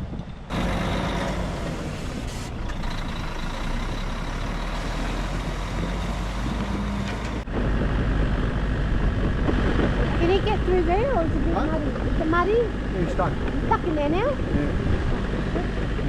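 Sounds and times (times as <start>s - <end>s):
heavy truck engine rumbling: 0.0s - 16.0s.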